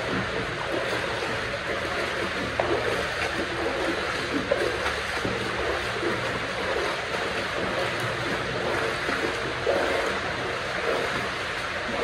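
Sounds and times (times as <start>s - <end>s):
faint splashes and knocks: 0.0s - 12.0s
running water rushing: 0.0s - 12.0s.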